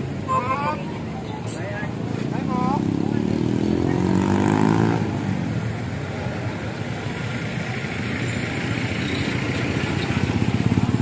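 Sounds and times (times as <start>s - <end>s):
vehicle engine running: 1.9s - 11.0s.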